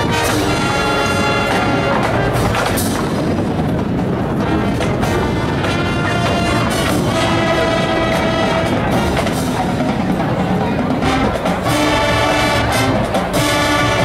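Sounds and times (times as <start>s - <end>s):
brass chords: 0.0s - 14.0s
drumline percussion: 0.0s - 14.0s.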